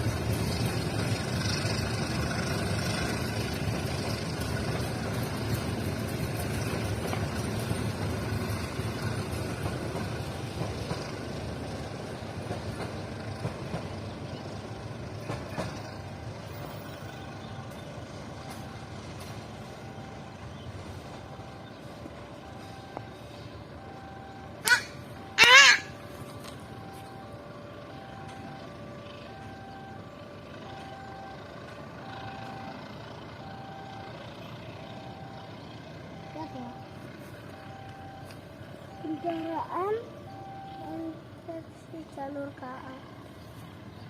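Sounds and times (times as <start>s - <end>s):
passenger train rumbling on track: 0.0s - 44.0s.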